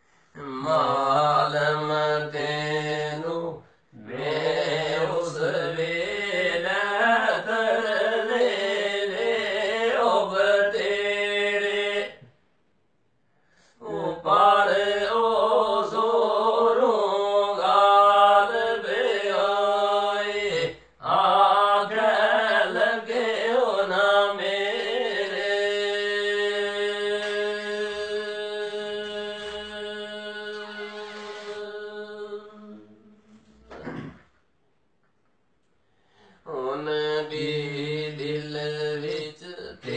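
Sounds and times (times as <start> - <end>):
men singing unaccompanied: 0.4 - 12.3, 13.8 - 33.1, 36.4 - 39.9.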